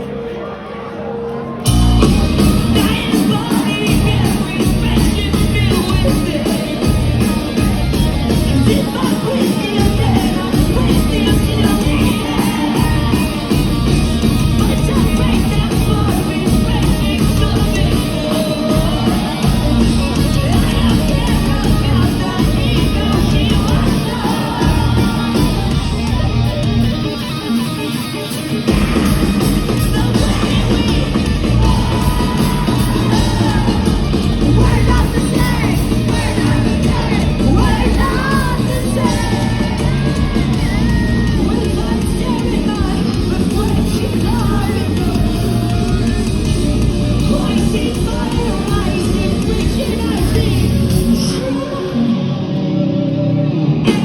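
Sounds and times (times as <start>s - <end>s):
person singing: 0.0s - 53.2s
live rock band playing: 0.0s - 54.0s.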